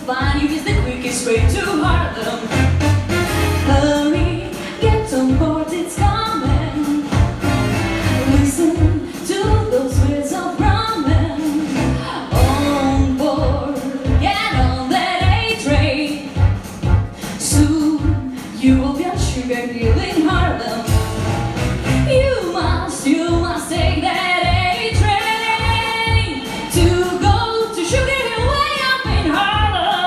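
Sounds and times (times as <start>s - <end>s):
band accompaniment: 0.0s - 30.0s
woman singing jazzy pop: 0.0s - 30.0s
pulsing bass beat: 0.2s - 18.2s, 19.2s - 29.8s.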